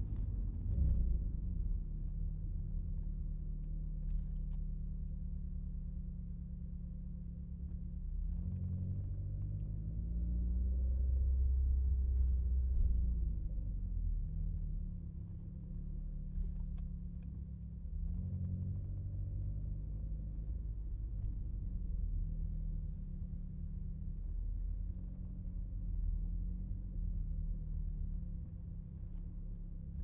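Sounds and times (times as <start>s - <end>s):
car engine low drone: 0.0s - 30.0s.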